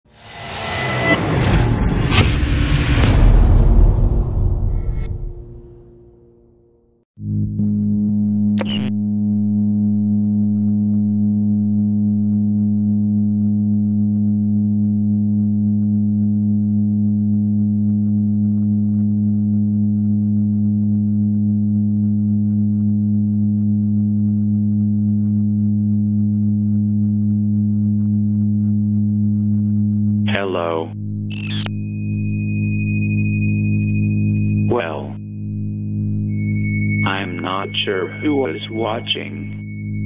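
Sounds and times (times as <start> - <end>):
low electronic drone: 0.1 - 40.0.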